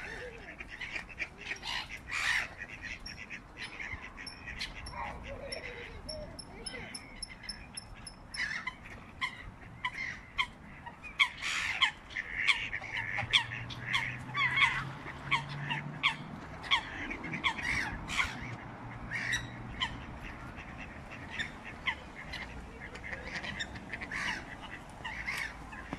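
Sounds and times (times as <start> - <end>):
gulls calling: 0.0 - 25.9.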